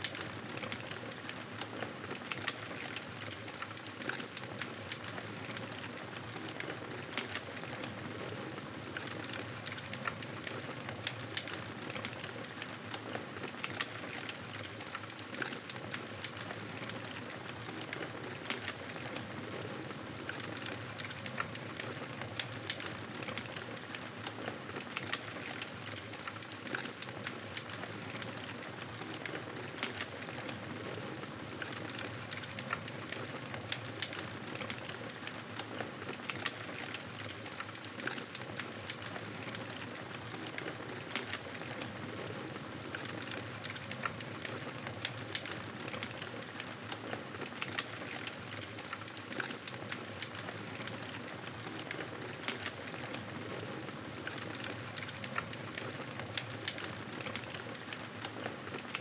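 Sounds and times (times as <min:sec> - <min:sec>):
campfire crackling and popping: 0:08.9 - 0:59.0.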